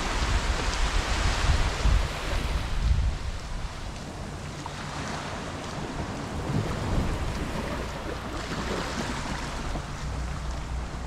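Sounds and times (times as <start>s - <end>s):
surf washing up on beach: 0.0s - 11.0s
wind rumbling on microphone: 0.0s - 11.0s.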